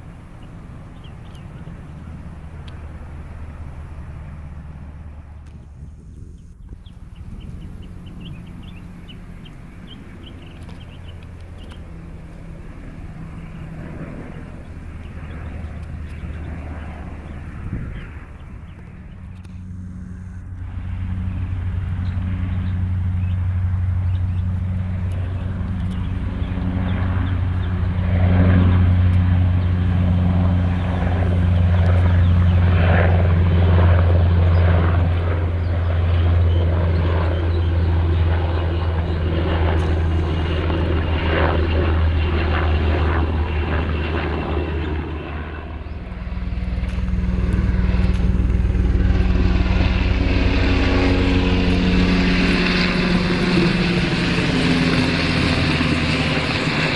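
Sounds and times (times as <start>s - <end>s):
aircraft engines droning: 0.0s - 56.9s.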